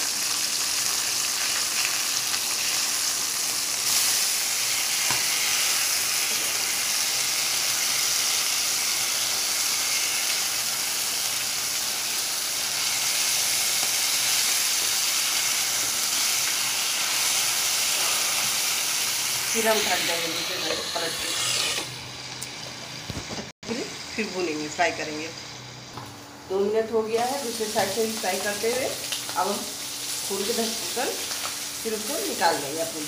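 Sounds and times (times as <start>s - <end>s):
fish sizzling in oil: 0.0s - 22.3s, 27.3s - 33.0s.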